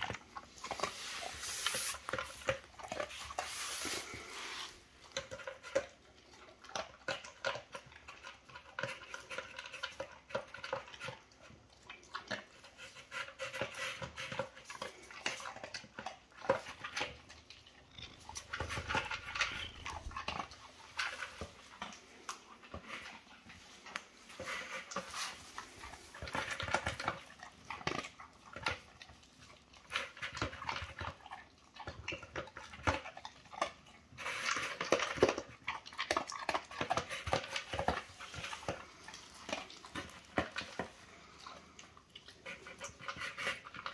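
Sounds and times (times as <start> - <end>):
dog crunching dry kibble: 0.0 - 43.9.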